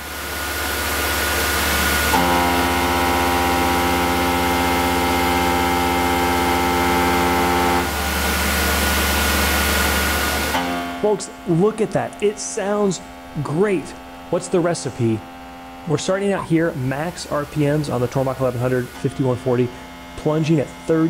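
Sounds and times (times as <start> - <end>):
cutter milling aluminum: 0.0 - 11.1, 15.2 - 21.0
mill spindle hissing: 0.1 - 20.5.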